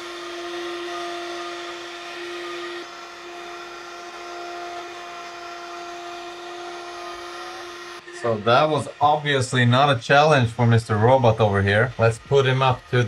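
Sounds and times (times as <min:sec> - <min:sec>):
suction fan whine: 0:00.0 - 0:13.0.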